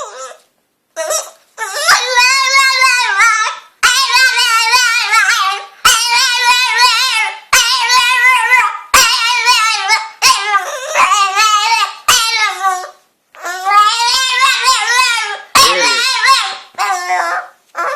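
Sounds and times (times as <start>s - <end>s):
dog whining: 0.0s - 17.9s.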